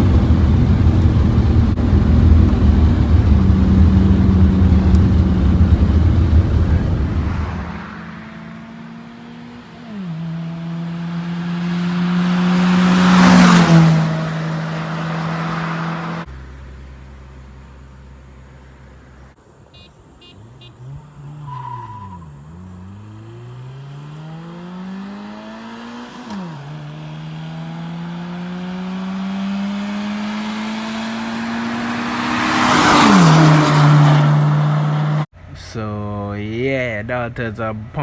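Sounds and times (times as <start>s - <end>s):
racing car engines revving: 0.0s - 16.3s, 20.3s - 35.3s.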